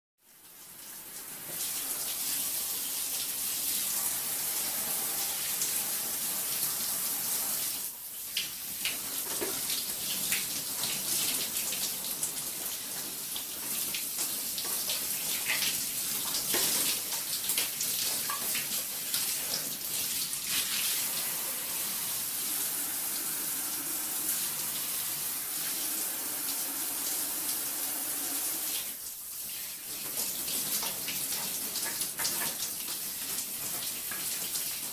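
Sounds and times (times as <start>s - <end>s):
shower spray running: 0.7s - 34.9s.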